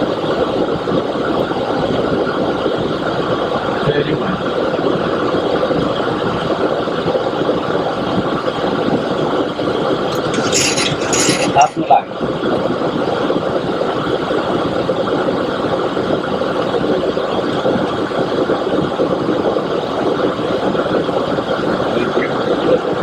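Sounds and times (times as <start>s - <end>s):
airflow and engines rushing: 0.0s - 23.0s.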